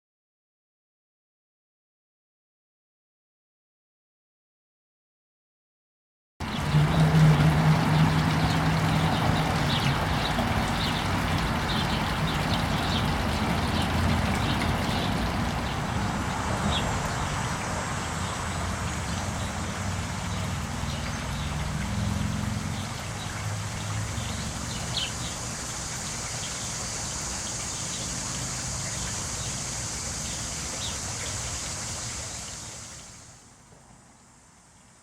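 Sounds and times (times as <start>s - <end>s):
water hissing from sprinkler: 6.4s - 35.0s.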